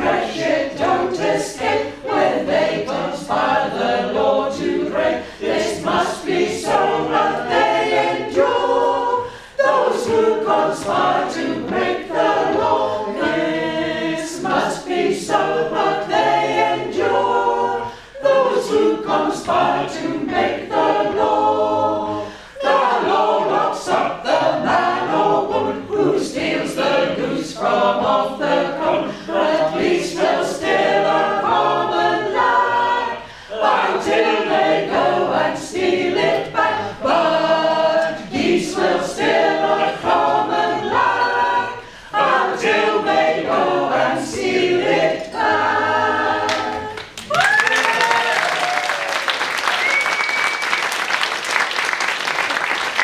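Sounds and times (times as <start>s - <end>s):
group singing unaccompanied: 0.0s - 47.2s.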